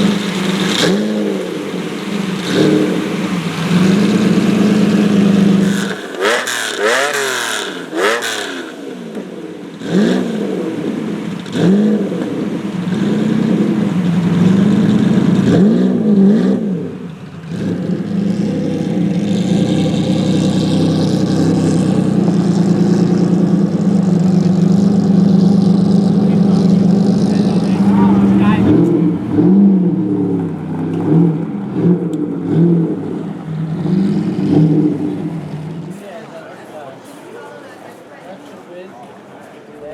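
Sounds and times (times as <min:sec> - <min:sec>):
car engine throttle blips: 0:00.0 - 0:36.0.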